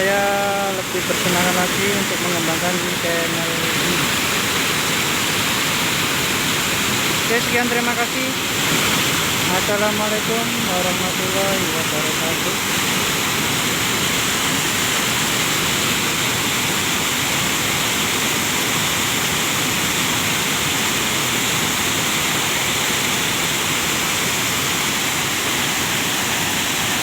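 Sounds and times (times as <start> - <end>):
mudflow rushing down river channel: 0.0 - 27.0.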